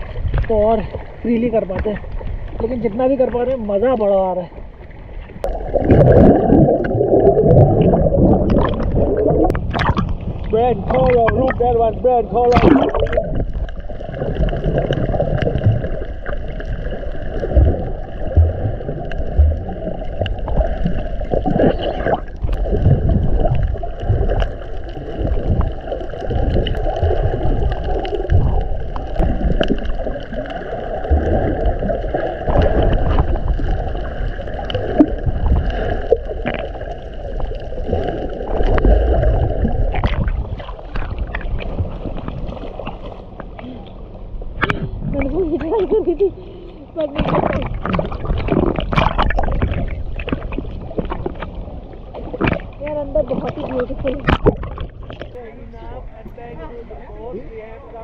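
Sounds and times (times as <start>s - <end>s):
faint steady hum: 0.0s - 58.0s
underwater sloshing and gurgling: 0.0s - 58.0s.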